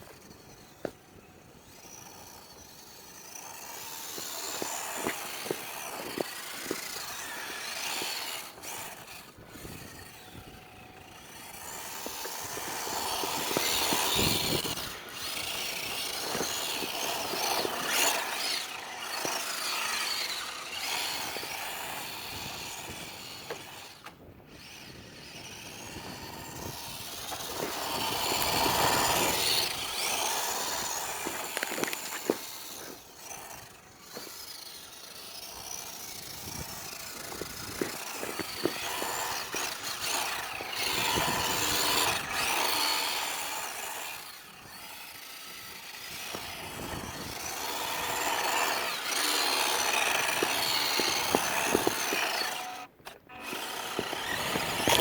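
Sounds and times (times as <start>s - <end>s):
toy car motor whining: 0.0s - 55.0s.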